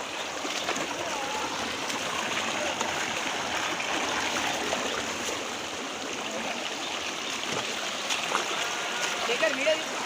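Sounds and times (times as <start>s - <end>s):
stream flowing over rocks: 0.0s - 10.0s.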